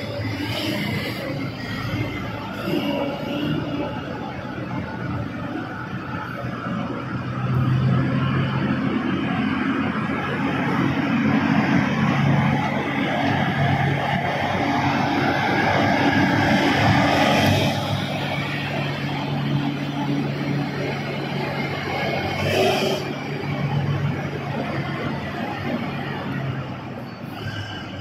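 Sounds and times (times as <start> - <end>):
diesel truck engine droning: 0.0 - 28.0.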